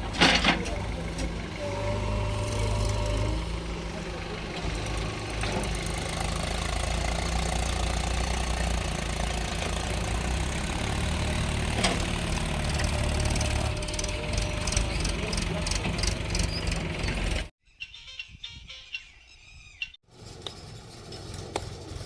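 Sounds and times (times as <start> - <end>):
diesel engine running: 0.0 - 17.5, 20.1 - 22.0.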